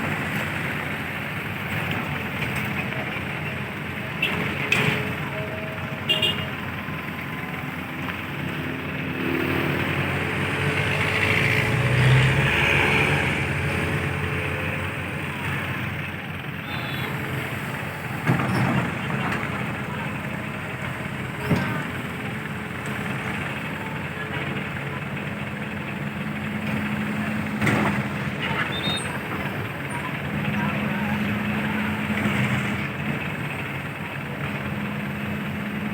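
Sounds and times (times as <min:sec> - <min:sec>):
heavy diesel engines running: 0:00.0 - 0:35.9.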